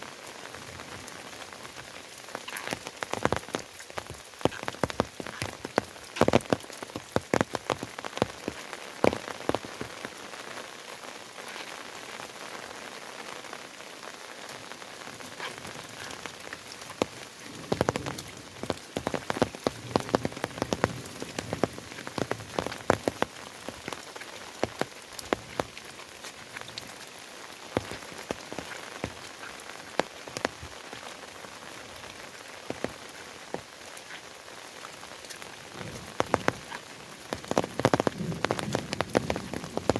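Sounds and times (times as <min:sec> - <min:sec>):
raindrops landing close by: 0:00.0 - 0:39.9
steady rain: 0:00.0 - 0:39.9.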